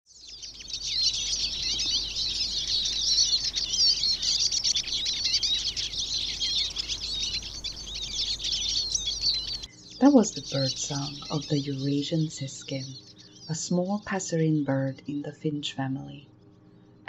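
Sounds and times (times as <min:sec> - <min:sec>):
bird twittering song: 0:00.1 - 0:17.0.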